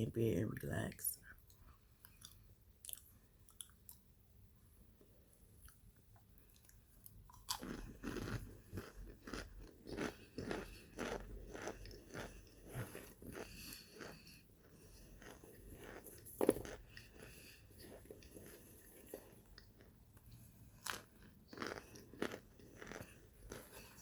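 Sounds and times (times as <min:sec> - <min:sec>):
chewing brittle crunchy food: 0:01.3 - 0:04.1, 0:05.5 - 0:24.0.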